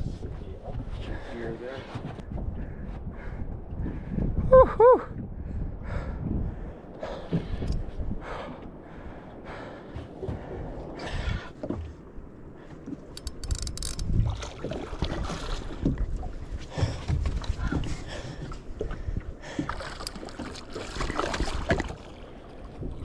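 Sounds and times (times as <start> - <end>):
wind buffeting microphone: 0.0 - 19.9, 20.6 - 23.0.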